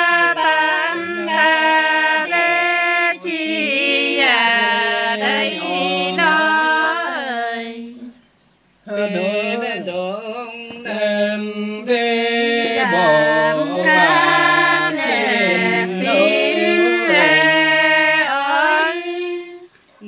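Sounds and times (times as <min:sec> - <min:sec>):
man singing unaccompanied: 0:00.0 - 0:08.2, 0:08.8 - 0:19.7.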